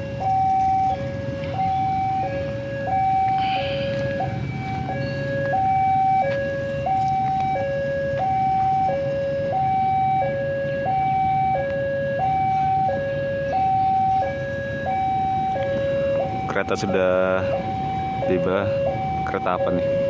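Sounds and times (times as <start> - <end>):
two-tone crossing alarm: 0.0 - 20.0.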